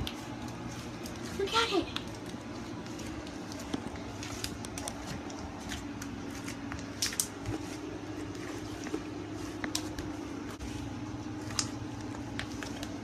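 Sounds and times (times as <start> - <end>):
slime squishing and crackling: 0.0 - 13.0
steady low hum: 0.0 - 13.0.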